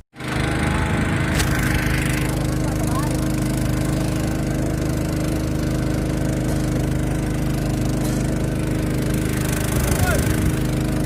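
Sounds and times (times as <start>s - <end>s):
small engine idling: 0.1s - 11.0s.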